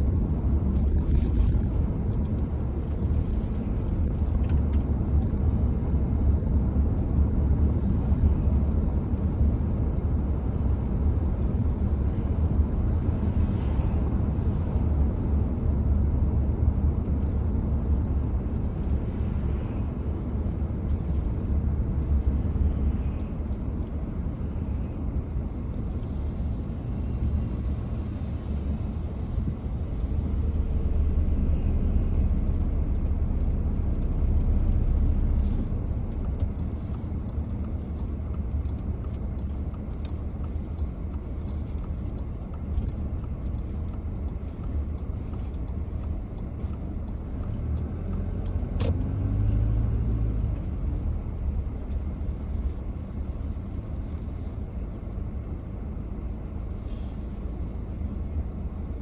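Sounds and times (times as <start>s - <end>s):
car tyres and engine rumbling: 0.0s - 59.0s.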